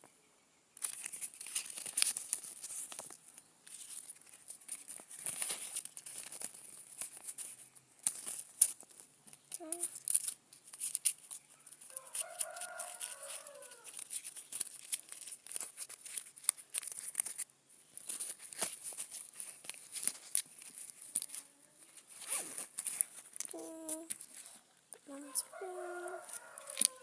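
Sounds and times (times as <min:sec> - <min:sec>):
plastic packaging crinkling: 0:00.8 - 0:24.6, 0:25.2 - 0:27.0.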